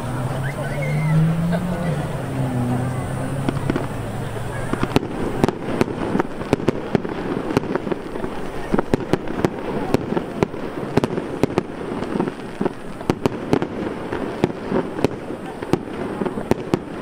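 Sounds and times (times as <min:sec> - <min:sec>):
crowd noise: 0:00.0 - 0:17.0
fireworks bursting: 0:00.0 - 0:17.0.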